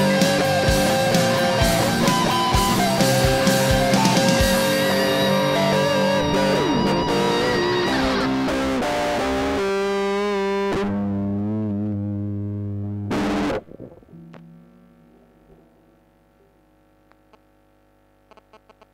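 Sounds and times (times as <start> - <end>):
backing track: 0.0 - 15.8
distorted electric guitar lead: 0.0 - 17.3.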